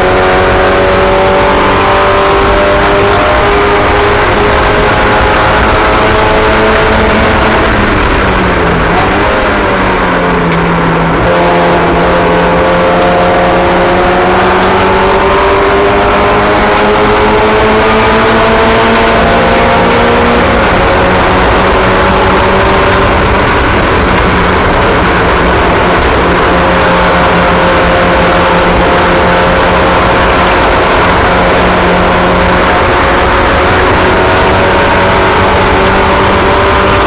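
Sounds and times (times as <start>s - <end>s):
race car engines running: 0.0s - 37.0s.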